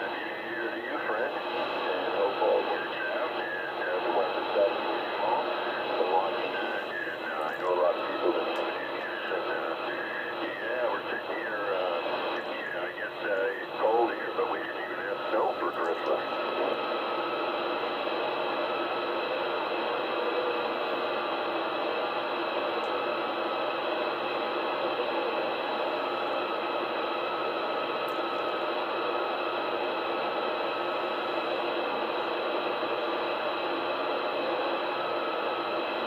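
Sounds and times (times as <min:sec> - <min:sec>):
radio receiver hissing: 0:00.0 - 0:36.0.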